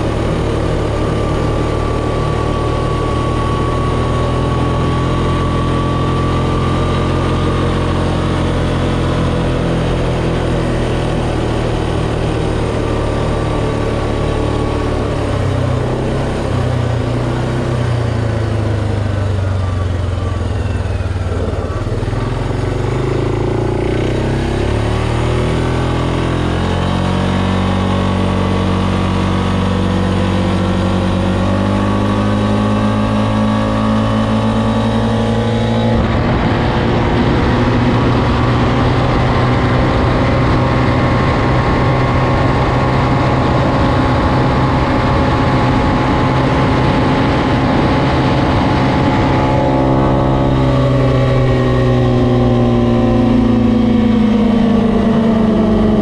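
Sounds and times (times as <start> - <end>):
quad engine accelerating: 0.0 - 56.0
wind rush on microphone: 8.0 - 56.0.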